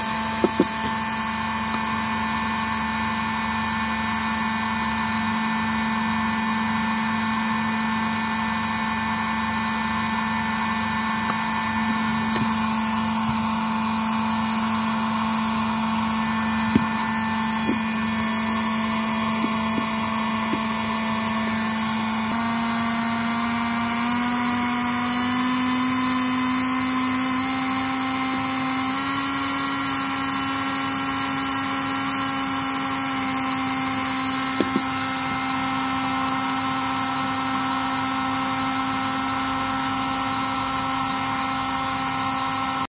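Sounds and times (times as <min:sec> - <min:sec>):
small geared motor whining: 0:00.0 - 0:42.9.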